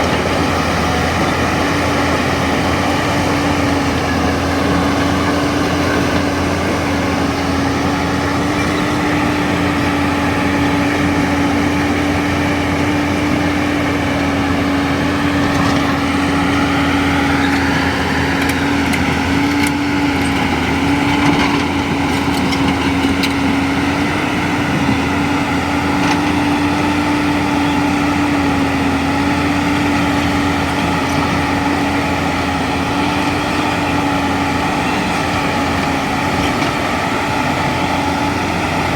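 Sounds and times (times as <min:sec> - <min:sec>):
diesel engine running: 0:00.0 - 0:38.9
hydraulic whine: 0:00.0 - 0:38.9.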